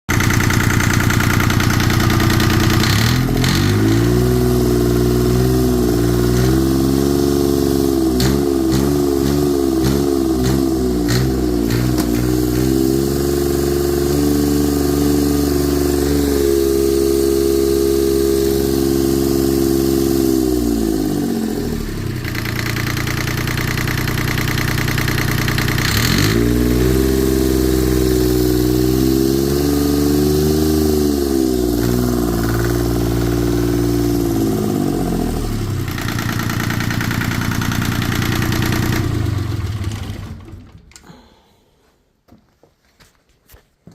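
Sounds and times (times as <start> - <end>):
diesel engine revving and idling: 0.1 - 40.8.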